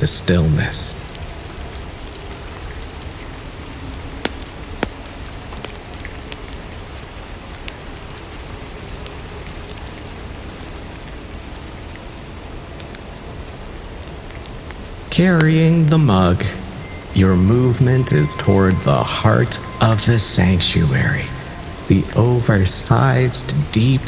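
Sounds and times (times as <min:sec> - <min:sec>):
rain drops ticking: 0:00.0 - 0:24.0
steady rain hiss: 0:00.0 - 0:24.0.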